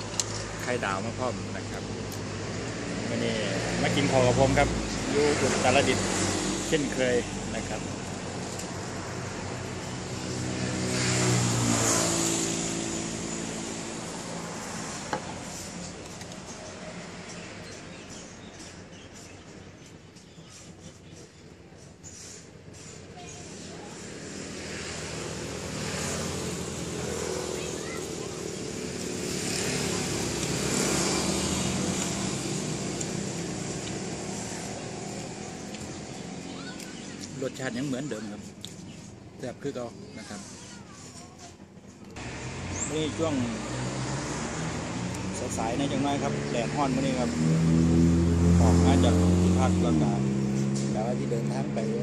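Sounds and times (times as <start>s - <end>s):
vehicle passing by: 0.0s - 21.0s, 22.2s - 52.0s
traffic hum: 0.0s - 52.0s.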